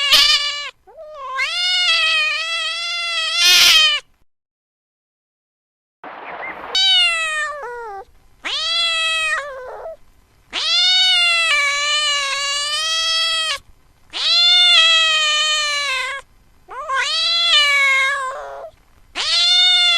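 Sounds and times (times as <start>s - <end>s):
cat meowing: 0.0s - 4.1s, 6.6s - 19.9s.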